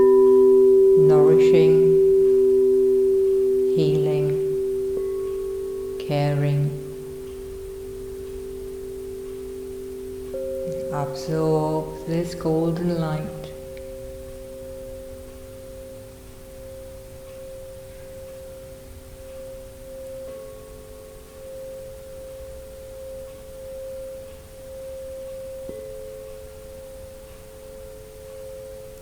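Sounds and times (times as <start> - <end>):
soft meditation drone music: 0.0 - 29.0.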